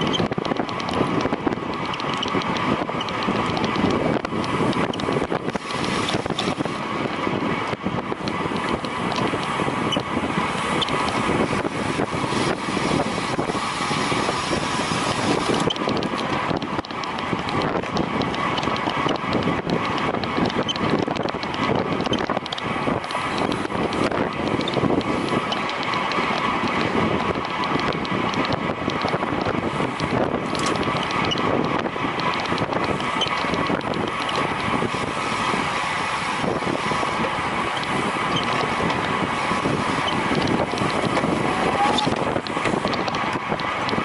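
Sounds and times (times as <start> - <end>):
bicycle ticking: 0.0 - 44.0
wind rushing over microphone: 0.0 - 44.0.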